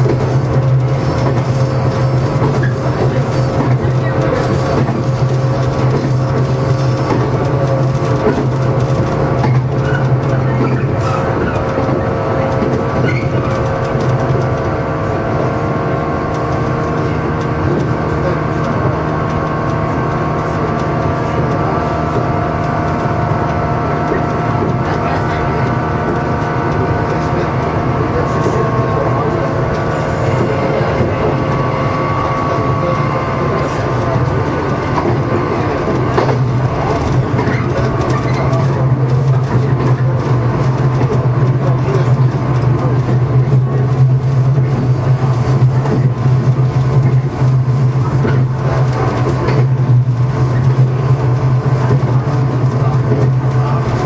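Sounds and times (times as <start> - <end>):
train motor hum: 0.0 - 54.0
train wheels rumbling on rail: 0.0 - 54.0.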